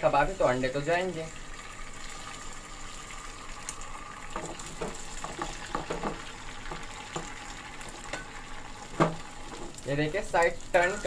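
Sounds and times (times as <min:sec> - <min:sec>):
egg sizzling in oil: 0:00.0 - 0:11.0.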